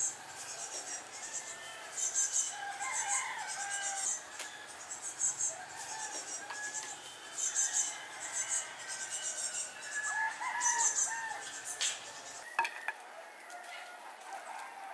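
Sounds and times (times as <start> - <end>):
birds chirping trills: 0.0 - 12.9.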